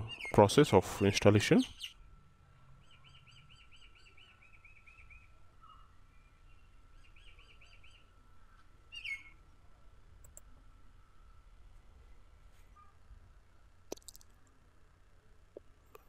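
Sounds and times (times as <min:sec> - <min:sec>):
faint bird chirping: 0:00.0 - 0:13.2.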